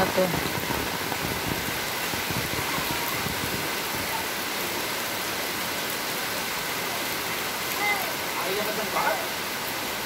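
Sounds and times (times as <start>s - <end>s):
heavy rain on roofs and paving: 0.0s - 10.0s.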